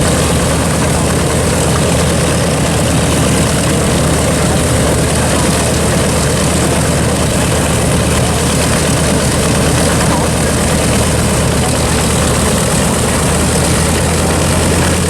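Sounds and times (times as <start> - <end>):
propeller plane engines idling: 0.0 - 15.0.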